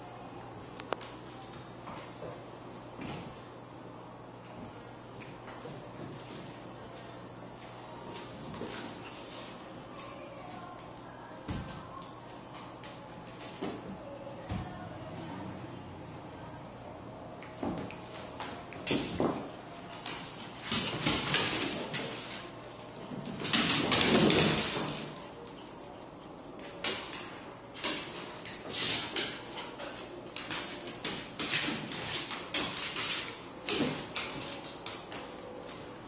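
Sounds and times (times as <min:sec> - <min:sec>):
dogs scuffling: 0:04.6 - 0:14.8, 0:17.4 - 0:36.0.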